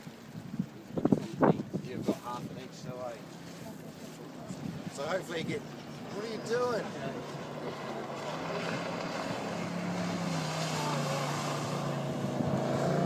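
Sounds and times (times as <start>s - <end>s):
boat engine running: 0.1s - 13.0s.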